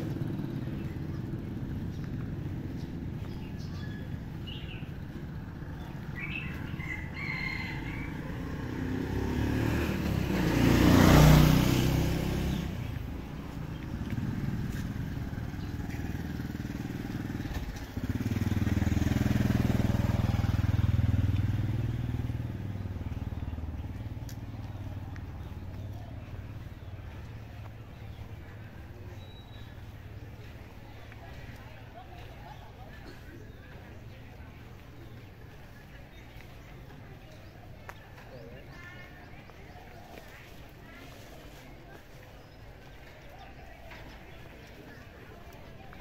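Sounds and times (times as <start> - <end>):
motorbike engine passing: 0.0 - 46.0.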